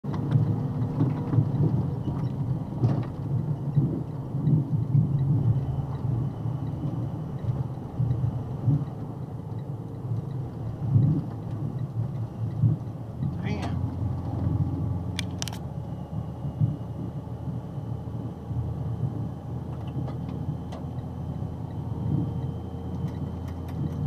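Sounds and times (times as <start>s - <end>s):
vehicle rumble on road: 0.0s - 24.0s.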